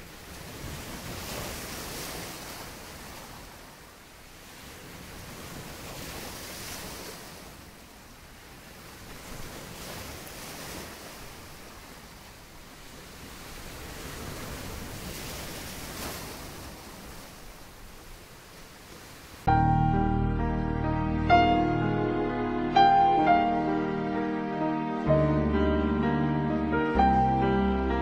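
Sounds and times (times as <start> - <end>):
ocean waves washing: 0.0 - 28.0.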